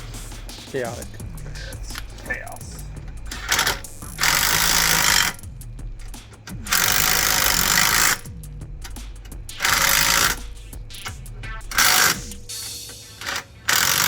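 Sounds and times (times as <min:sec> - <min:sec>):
power tool running: 0:01.0 - 0:14.0.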